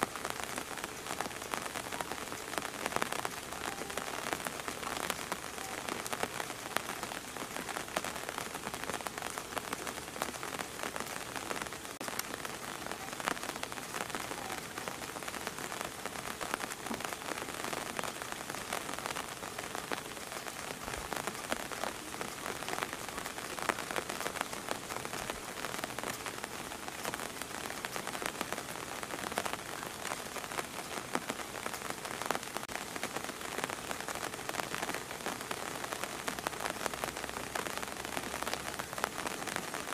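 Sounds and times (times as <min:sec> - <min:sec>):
raindrops ticking close by: 0:00.0 - 0:39.9
steady rain: 0:00.0 - 0:39.9.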